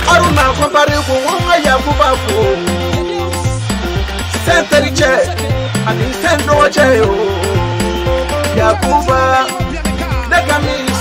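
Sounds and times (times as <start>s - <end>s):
african pop music: 0.0s - 11.0s.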